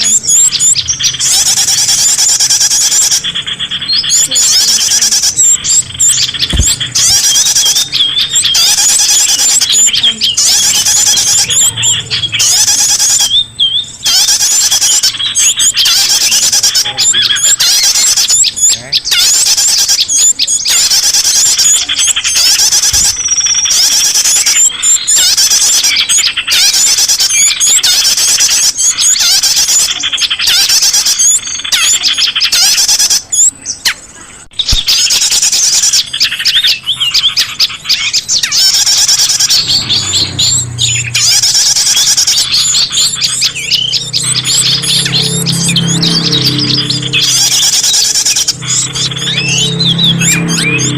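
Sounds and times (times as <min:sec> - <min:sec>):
small birds chirping and squeaking: 0:00.0 - 0:50.9.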